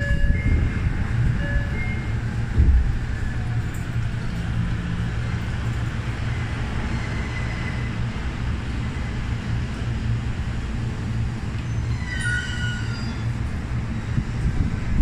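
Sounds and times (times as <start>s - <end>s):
subway car low hum: 0.0s - 15.0s.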